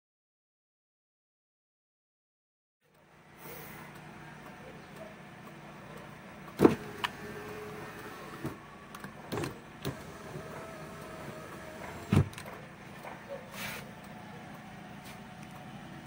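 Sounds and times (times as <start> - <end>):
steady low hum: 2.8 - 16.0.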